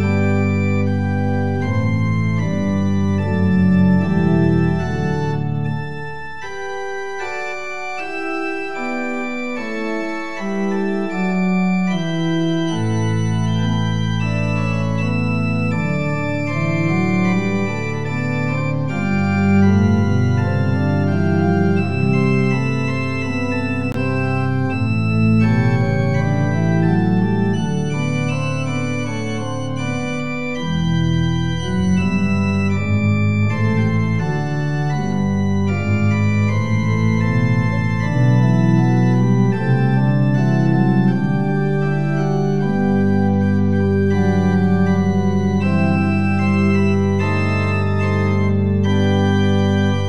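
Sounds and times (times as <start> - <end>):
organ playing slow chords: 0.0 - 50.0.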